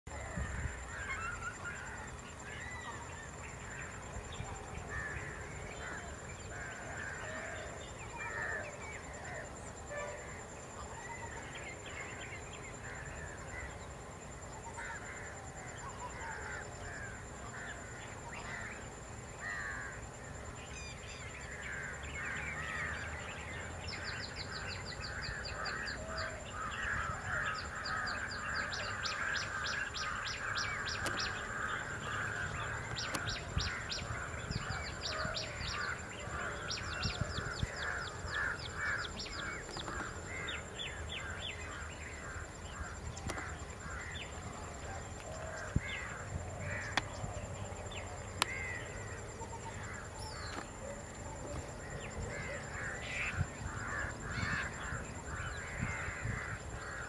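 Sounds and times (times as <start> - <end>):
birds chirping: 10.1 - 57.0.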